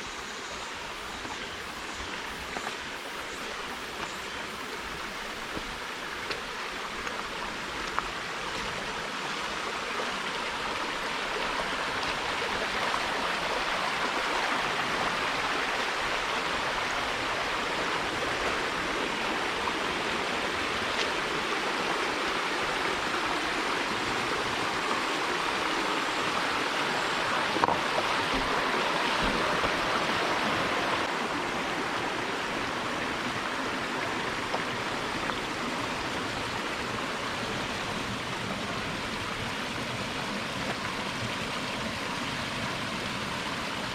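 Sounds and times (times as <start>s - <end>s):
stream water running: 0.0s - 43.9s.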